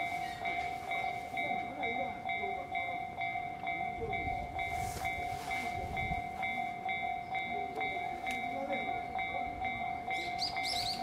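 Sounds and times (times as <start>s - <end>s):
level-crossing warning bell ringing: 0.0s - 11.0s.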